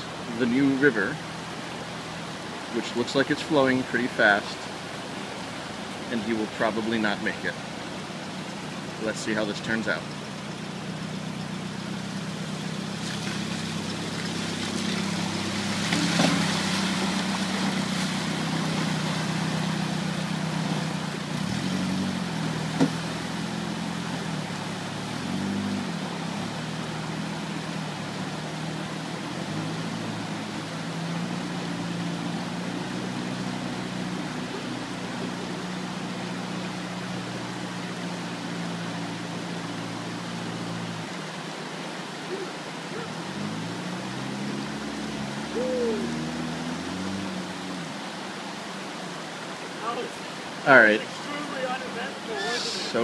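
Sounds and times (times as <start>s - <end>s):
river water rushing: 0.0s - 53.0s
car engine running: 4.0s - 52.0s.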